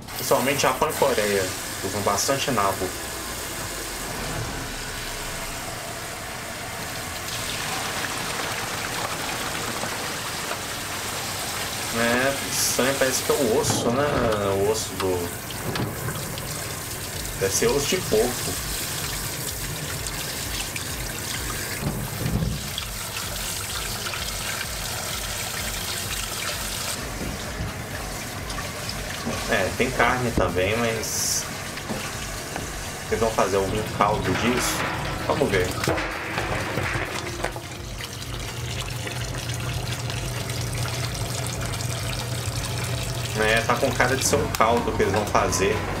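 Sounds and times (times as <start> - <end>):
water pouring into sink: 0.0 - 46.0
tap water running into pot: 6.2 - 45.7.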